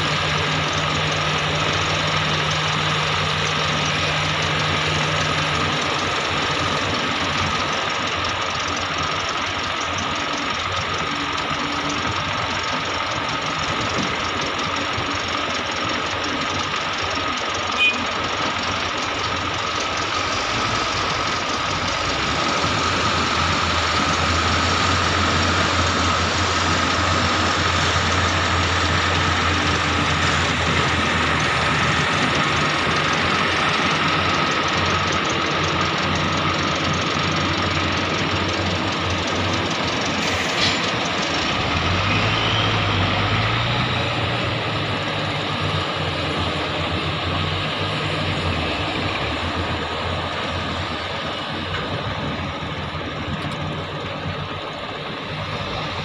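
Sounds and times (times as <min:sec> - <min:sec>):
excavator diesel engine drone: 0:00.0 - 0:56.0.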